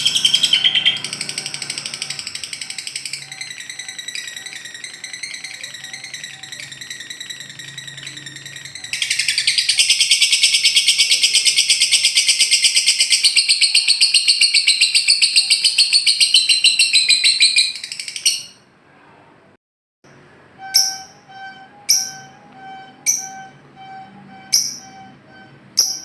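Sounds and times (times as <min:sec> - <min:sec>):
bird chattering and trilling: 0:00.0 - 0:18.6, 0:20.6 - 0:26.0.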